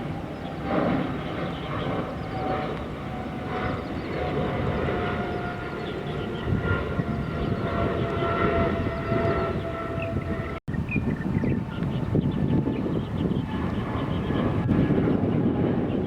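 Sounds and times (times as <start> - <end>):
jet engines rumbling and whining: 0.0 - 16.0.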